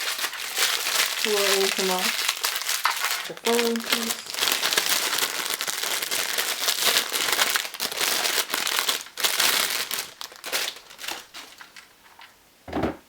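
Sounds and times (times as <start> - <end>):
packaging crinkling and rustling: 0.0 - 12.4.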